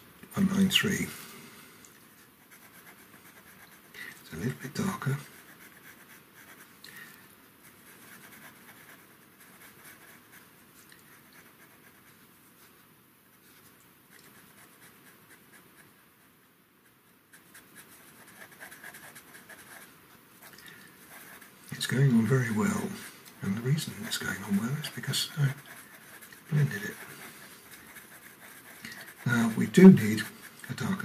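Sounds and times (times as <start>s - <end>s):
pencil scratching on paper: 2.4s - 6.7s, 7.6s - 12.2s, 14.1s - 16.0s, 16.8s - 31.0s.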